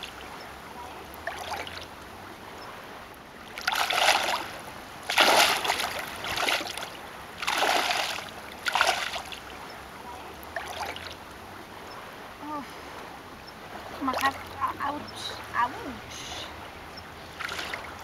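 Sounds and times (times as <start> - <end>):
wading through shallow water: 0.0 - 18.0.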